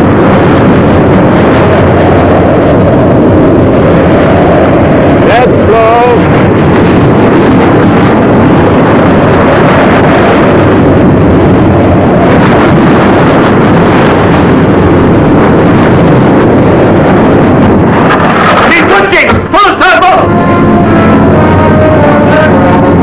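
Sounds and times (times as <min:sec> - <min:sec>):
boat engine: 0:00.0 - 0:23.0
wind: 0:00.0 - 0:23.0.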